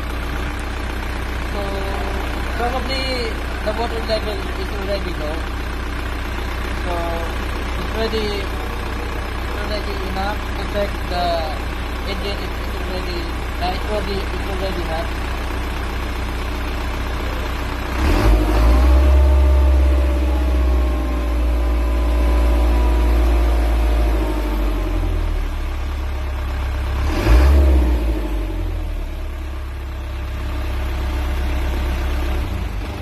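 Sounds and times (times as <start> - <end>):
truck engine revving: 1.2 - 25.7, 26.6 - 29.3.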